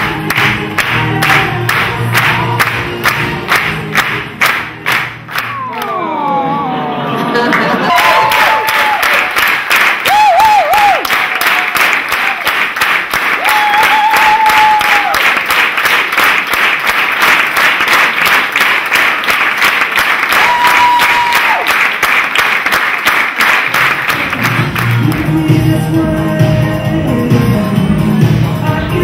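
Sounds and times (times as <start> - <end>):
audience clapping in unison: 0.0 - 6.4, 7.3 - 25.8.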